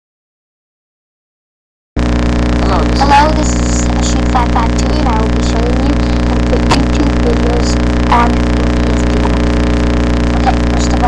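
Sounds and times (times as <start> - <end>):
electrical mains hum: 2.0 - 11.0.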